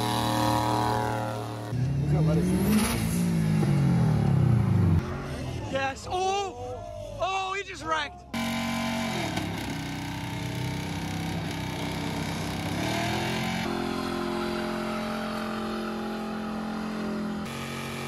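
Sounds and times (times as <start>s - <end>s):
engines revving high during burnouts: 0.0s - 5.8s, 8.3s - 18.0s.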